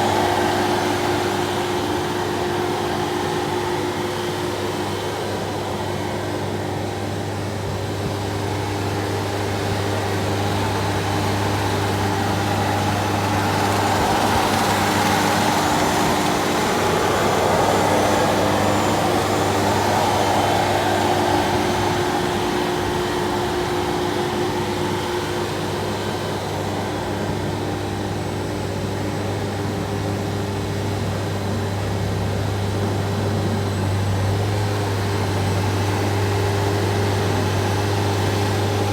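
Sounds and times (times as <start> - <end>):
concrete floor grinder running: 0.0 - 38.9.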